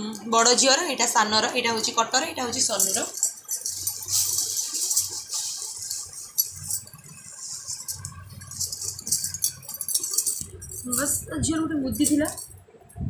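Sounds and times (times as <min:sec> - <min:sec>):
trinkets rustling and clinking: 0:00.0 - 0:12.7.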